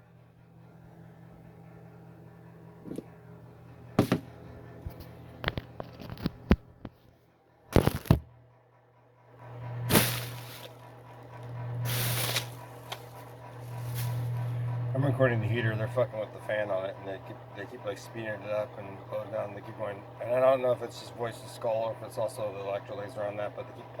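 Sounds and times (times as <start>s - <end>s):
heater fan humming: 0.0s - 6.9s, 7.7s - 24.0s.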